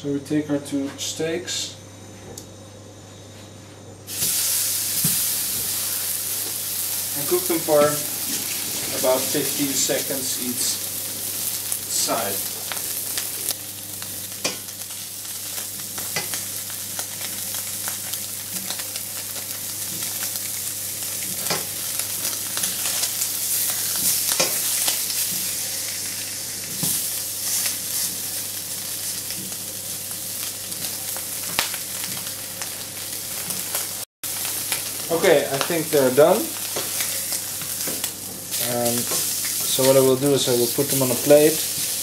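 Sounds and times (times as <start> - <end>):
meat sizzling in frying pan: 4.1 - 42.0.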